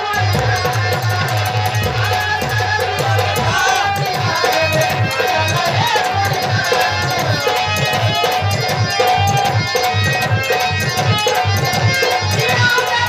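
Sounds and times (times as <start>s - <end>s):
hand drum fast rhythm: 0.0s - 13.0s.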